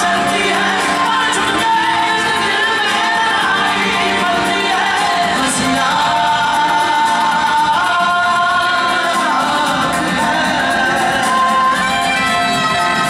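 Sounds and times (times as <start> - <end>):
group singing in chorus: 0.0 - 13.0
harmonium: 0.0 - 13.0.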